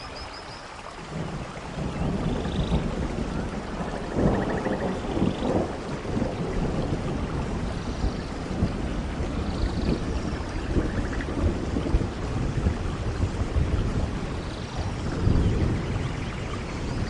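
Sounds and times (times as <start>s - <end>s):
steady rain: 0.0s - 17.0s
low rumbling thunder: 1.1s - 17.0s.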